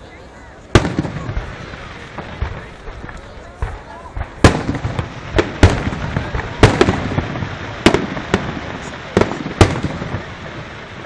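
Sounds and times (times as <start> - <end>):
fireworks crackle: 0.0 - 11.0
fireworks bangs: 0.6 - 11.0.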